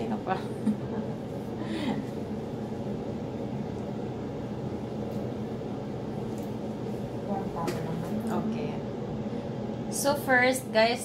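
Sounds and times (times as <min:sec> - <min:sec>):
equipment humming: 0:00.0 - 0:11.0.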